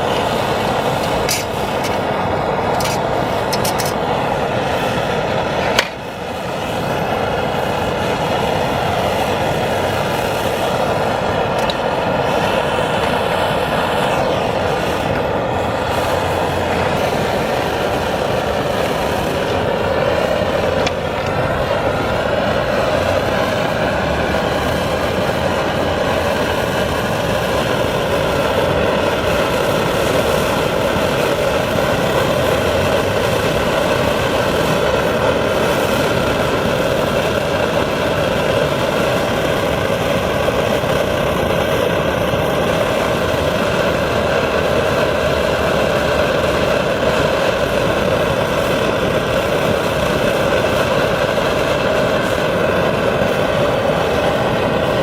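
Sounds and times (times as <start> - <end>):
stove burner roaring: 0.0 - 55.0.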